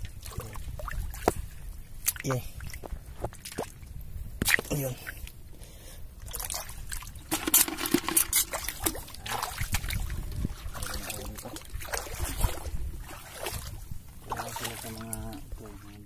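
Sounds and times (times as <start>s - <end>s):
feet wading in shallows: 0.0s - 16.0s
shallow water sloshing: 0.0s - 16.0s.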